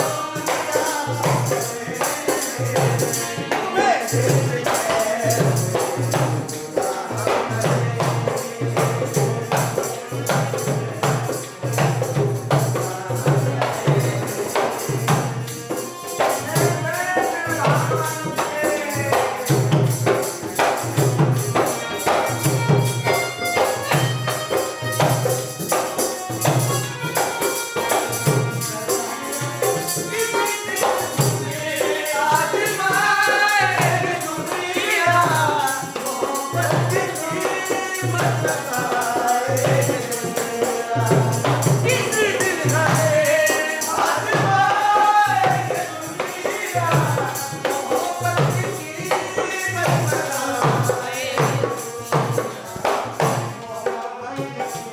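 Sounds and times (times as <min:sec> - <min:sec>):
dholak drum beat: 0:00.0 - 0:54.9
harmonium: 0:00.0 - 0:54.9
person singing: 0:00.0 - 0:54.9.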